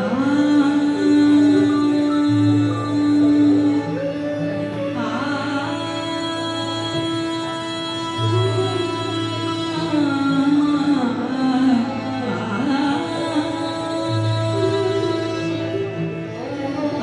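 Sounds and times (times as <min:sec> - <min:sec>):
indian classical melody: 0:00.0 - 0:17.0.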